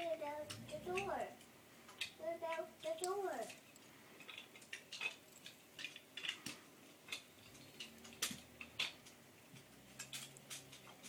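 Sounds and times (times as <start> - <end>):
small hard pieces clicking: 0.0 - 11.0.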